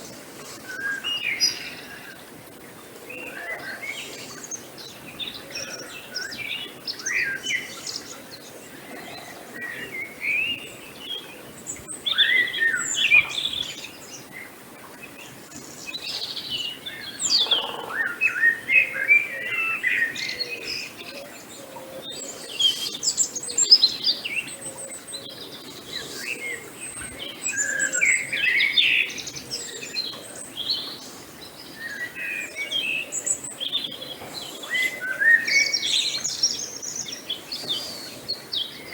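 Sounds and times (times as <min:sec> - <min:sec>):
faint outdoor hiss: 0:00.0 - 0:38.9
songbirds chirping and singing: 0:00.0 - 0:38.9.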